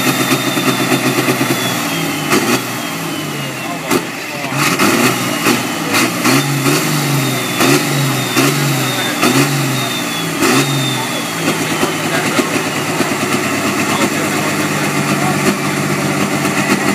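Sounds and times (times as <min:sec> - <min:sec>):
diesel tractor engine revving: 0:00.0 - 0:16.9.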